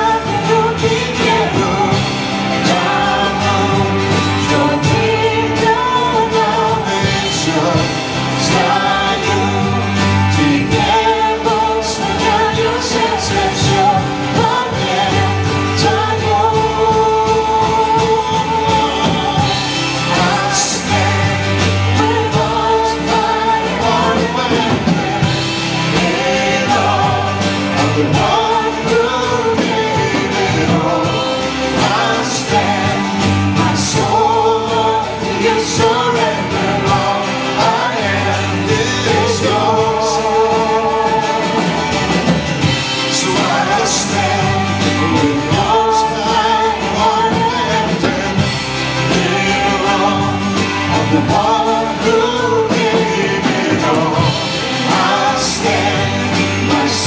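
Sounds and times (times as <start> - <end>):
low bass notes: 0.0 - 57.0
person singing: 0.0 - 57.0
worship band playing: 0.0 - 57.0.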